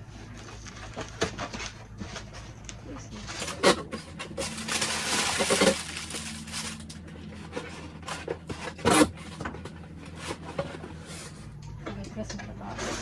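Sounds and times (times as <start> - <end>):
packaging rustling and scraping: 0.2 - 2.6, 3.2 - 11.5.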